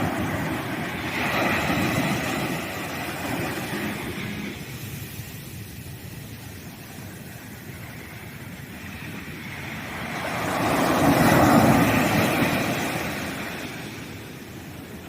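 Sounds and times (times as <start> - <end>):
wave washing on sand: 0.0 - 15.0.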